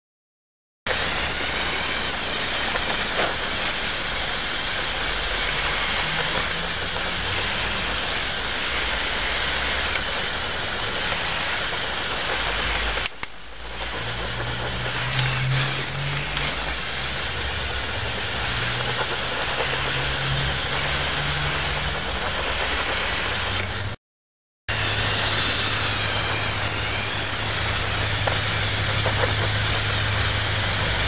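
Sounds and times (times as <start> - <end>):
hiss: 0.9 - 24.0, 24.7 - 31.0
toy truck electric motors whirring: 0.9 - 24.0, 24.7 - 31.0.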